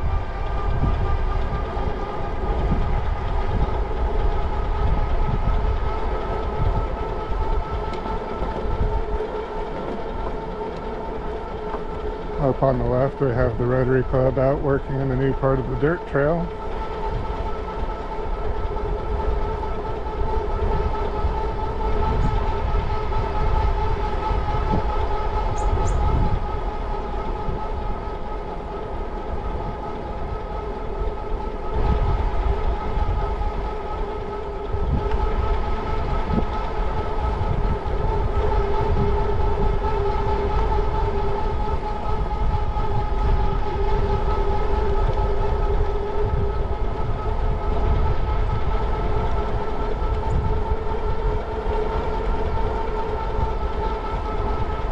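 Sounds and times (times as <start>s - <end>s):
low wind: 0.0s - 54.9s.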